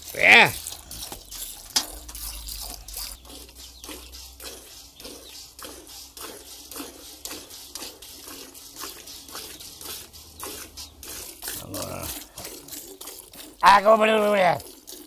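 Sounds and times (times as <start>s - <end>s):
milk squirting into metal pail: 0.0s - 15.0s.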